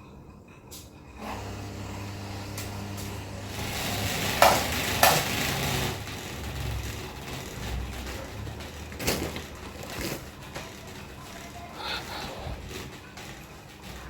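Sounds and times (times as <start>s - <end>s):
fan whirring: 0.0s - 14.0s.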